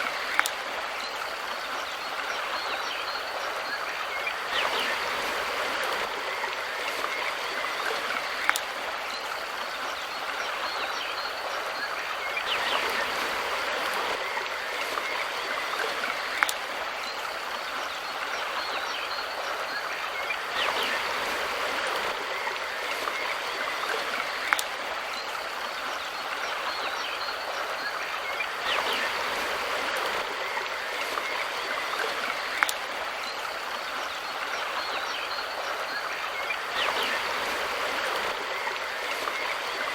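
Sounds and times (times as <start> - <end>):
stream rushing and burbling: 0.0 - 39.9.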